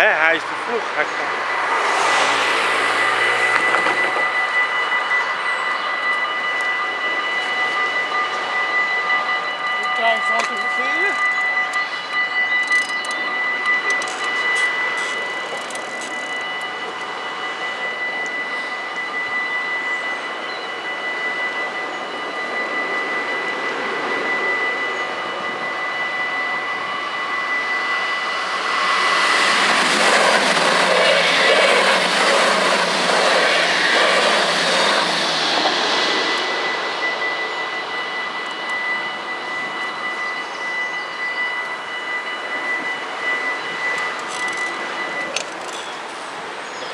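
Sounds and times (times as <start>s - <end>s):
electric train rumbling past: 0.0s - 46.9s
level-crossing bells ringing: 0.0s - 46.9s.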